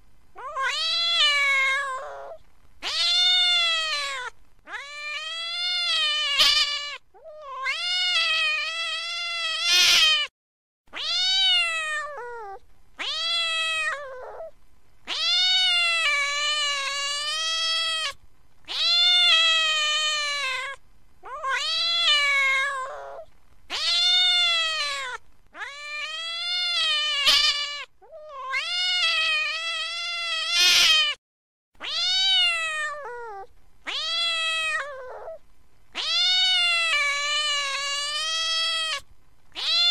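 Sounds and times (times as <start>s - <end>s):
cat yowling: 0.4s - 10.3s, 10.9s - 14.5s, 15.1s - 31.2s, 31.8s - 35.4s, 36.0s - 39.0s, 39.6s - 39.9s.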